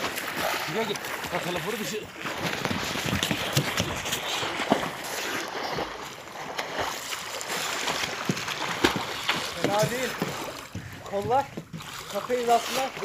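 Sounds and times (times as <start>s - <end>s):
swimmer's arm strokes splashing: 0.0s - 10.8s, 11.7s - 13.0s.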